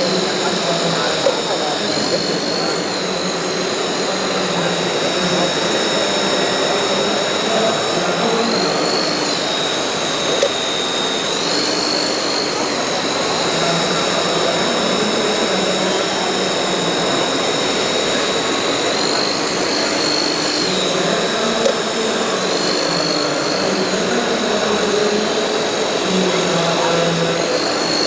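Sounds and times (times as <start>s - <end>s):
model motor whining: 0.0s - 28.0s.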